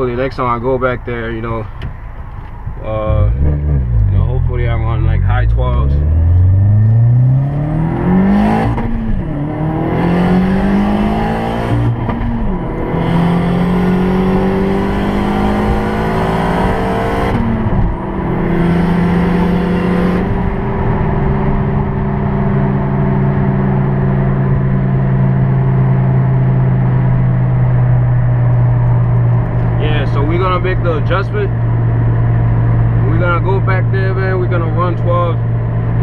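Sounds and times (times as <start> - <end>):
car engine accelerating through gears: 3.1 - 36.0.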